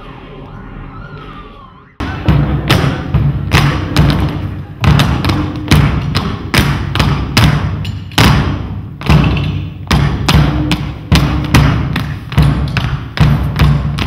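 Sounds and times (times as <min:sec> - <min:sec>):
percussive music with heavy drums: 0:02.0 - 0:14.0.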